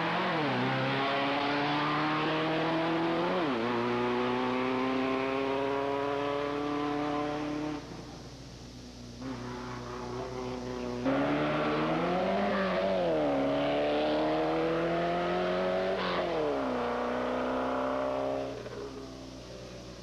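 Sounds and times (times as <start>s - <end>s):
race car engine accelerating: 0.0s - 7.9s, 9.2s - 19.1s.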